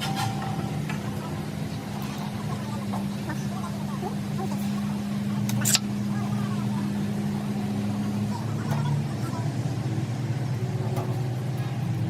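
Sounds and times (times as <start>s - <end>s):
faint voices: 0.0s - 12.0s
low mechanical drone: 0.0s - 12.0s.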